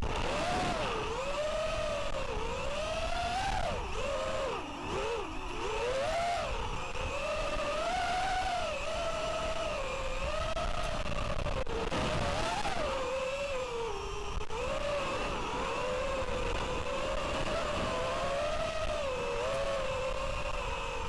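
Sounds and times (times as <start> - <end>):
quadcopter motors whining: 0.0 - 21.0
wind rumble on microphone: 0.0 - 21.0.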